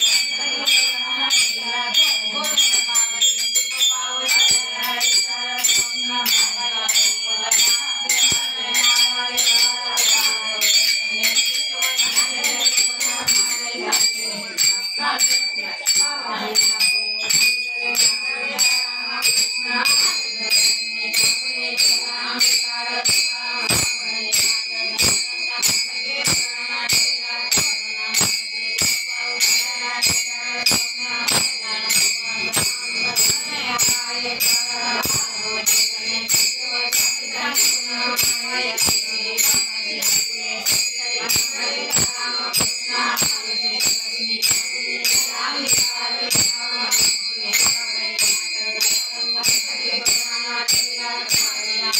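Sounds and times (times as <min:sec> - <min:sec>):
jingling metal hand percussion: 0:00.0 - 0:51.9.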